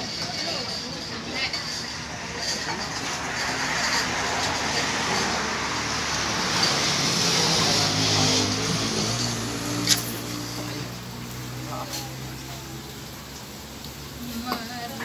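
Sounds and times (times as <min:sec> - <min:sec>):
vehicle passing by: 0:01.3 - 0:14.3.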